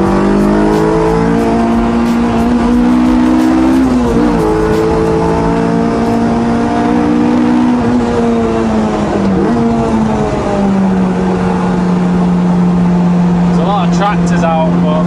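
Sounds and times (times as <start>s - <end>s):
car engine accelerating: 0.0s - 13.5s.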